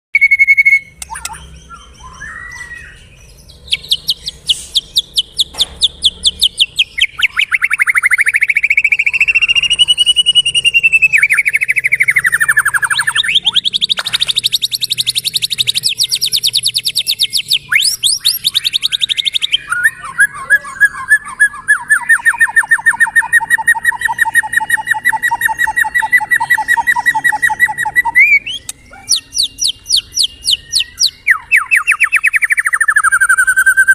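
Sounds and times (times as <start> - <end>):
bird singing fast trills: 0.2 - 33.9.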